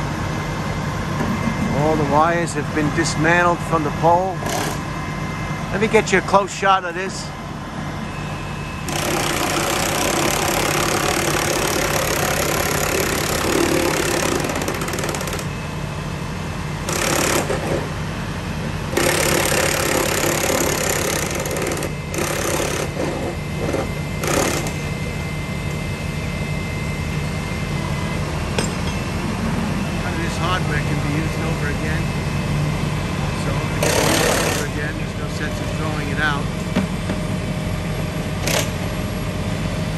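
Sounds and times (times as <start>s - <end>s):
harsh mechanical noise: 0.0s - 39.9s
truck engines running: 0.0s - 39.9s.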